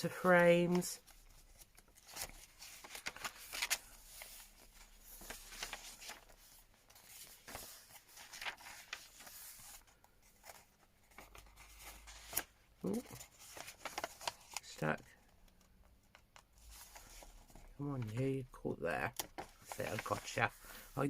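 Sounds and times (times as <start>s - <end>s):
paper pages rustling: 0.0s - 18.4s, 19.1s - 21.0s.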